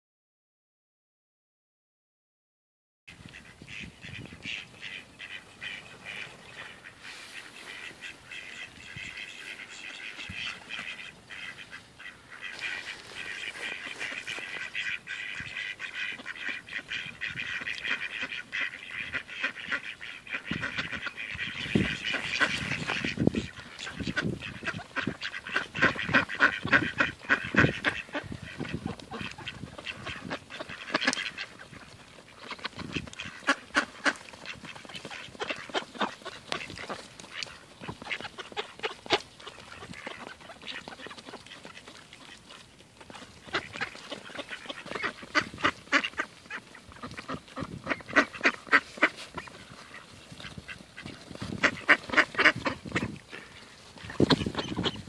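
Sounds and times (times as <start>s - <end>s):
ducks quacking: 3.1s - 55.0s.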